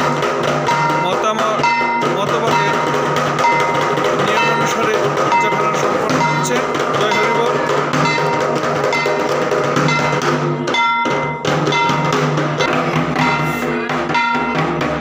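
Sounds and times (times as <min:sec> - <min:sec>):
drums: 0:00.0 - 0:15.0
ringing metallic percussion: 0:00.0 - 0:15.0.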